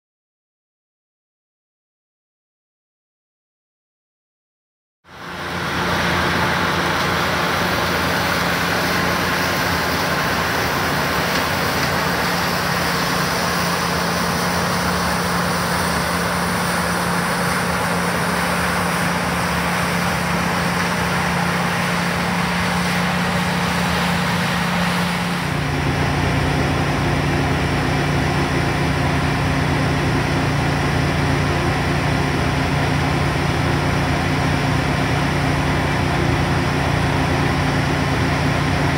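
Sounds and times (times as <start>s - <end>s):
combine harvester droning: 5.1s - 38.9s
grain unloading through auger: 5.2s - 38.9s.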